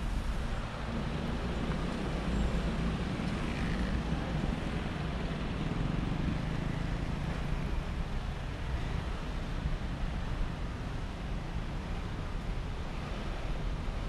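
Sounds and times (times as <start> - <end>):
city road traffic rumble: 0.0 - 14.0.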